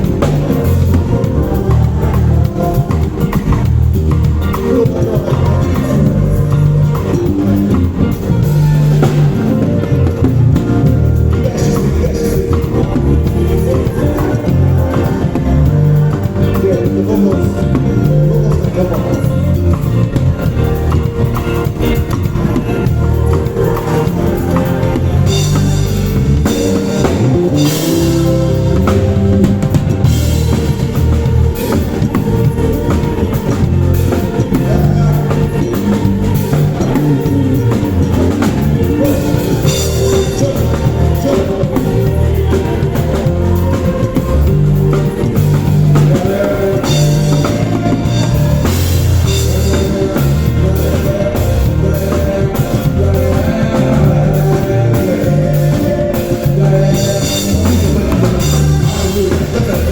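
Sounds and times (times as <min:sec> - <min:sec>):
live band playing: 0:00.0 - 0:59.9.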